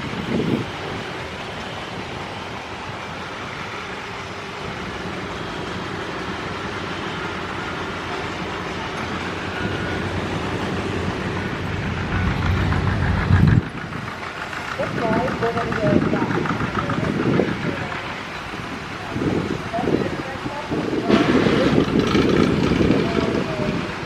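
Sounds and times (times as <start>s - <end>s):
vehicle running nearby: 0.0s - 24.0s.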